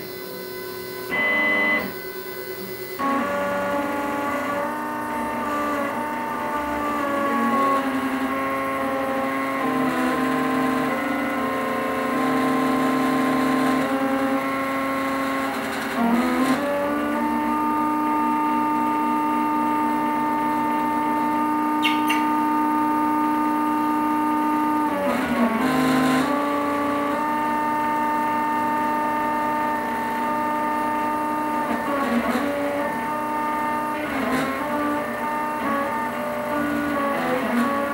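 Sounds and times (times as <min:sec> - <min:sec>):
stepper motors whining: 0:00.0 - 0:37.9.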